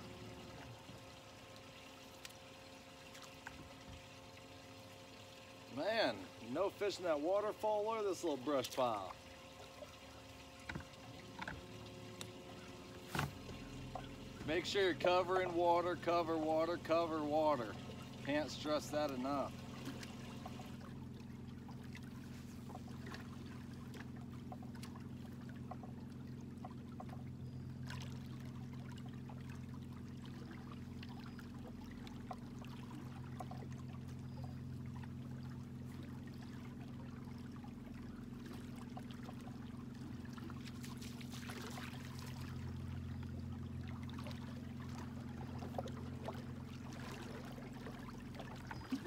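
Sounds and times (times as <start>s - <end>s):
electric trolling motor humming: 0.0s - 49.0s
faint water around hull: 0.0s - 49.0s.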